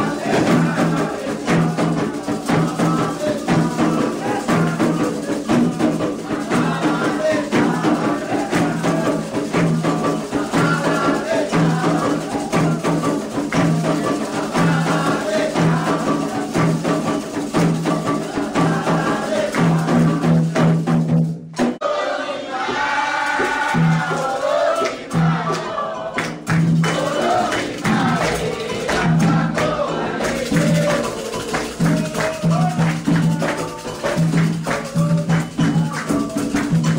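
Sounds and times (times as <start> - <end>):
voices singing: 0.0 - 20.9, 21.7 - 36.9
metal bell rhythm: 0.0 - 21.1, 25.2 - 36.9
hand drums: 0.0 - 21.8, 22.6 - 36.9.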